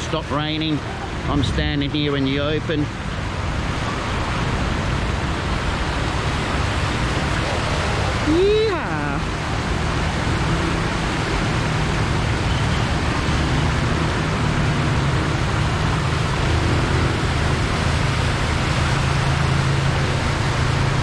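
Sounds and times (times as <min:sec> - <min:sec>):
floodwater rushing: 0:00.0 - 0:21.0
vehicle engine humming: 0:00.0 - 0:21.0.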